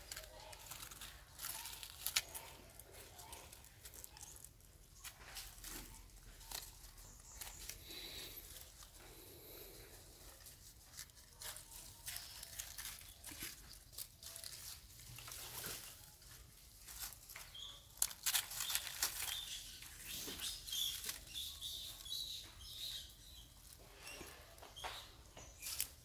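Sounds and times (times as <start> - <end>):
dry leaves rustling and crackling: 0.0 - 24.6, 25.3 - 26.0.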